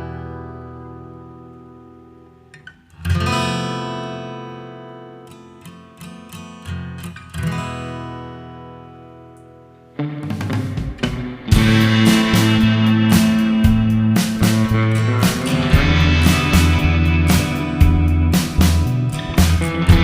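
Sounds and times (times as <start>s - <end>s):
acoustic guitar chord strummed: 0.0s - 20.0s
picked guitar notes: 0.0s - 20.0s.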